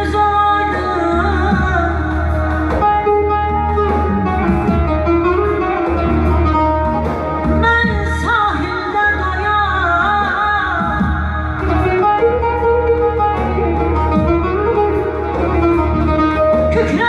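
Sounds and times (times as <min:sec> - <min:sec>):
backing music with pulsing bass: 0:00.0 - 0:17.0
woman singing into microphone: 0:00.0 - 0:17.0.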